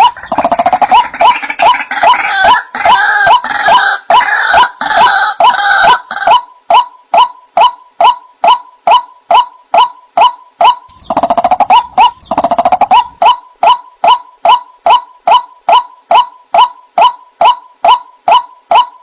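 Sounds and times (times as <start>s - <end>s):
bird rapid chattering: 0.0s - 19.0s.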